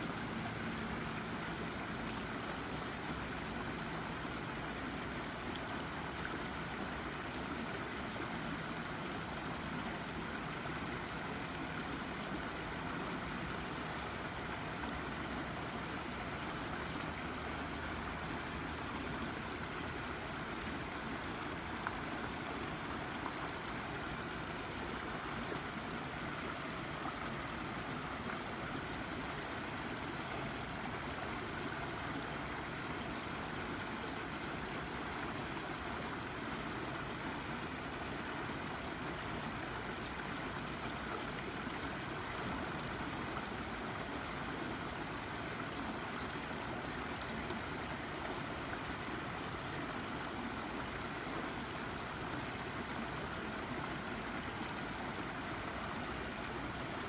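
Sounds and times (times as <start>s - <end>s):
brook babbling over rock: 0.0s - 57.0s.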